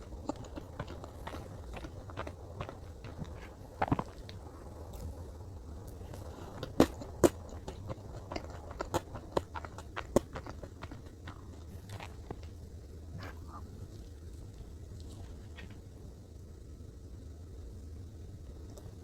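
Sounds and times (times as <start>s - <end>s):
person chewing cake: 0.0s - 15.9s.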